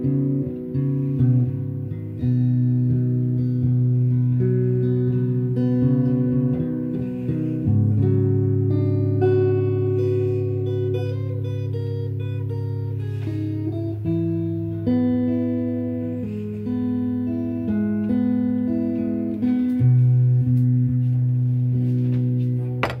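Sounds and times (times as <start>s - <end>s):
slow blues guitar: 0.0s - 23.0s.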